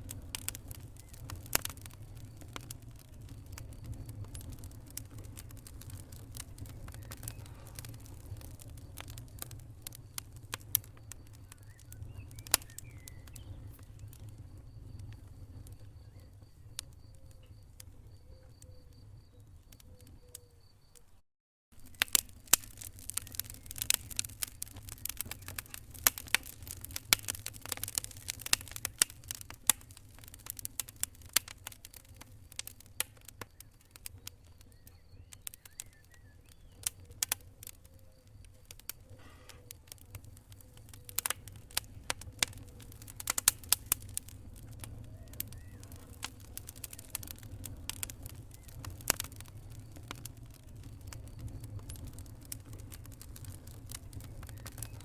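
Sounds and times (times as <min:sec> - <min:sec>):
wood fire crackling and popping: 0:00.0 - 0:21.0, 0:21.7 - 0:55.0.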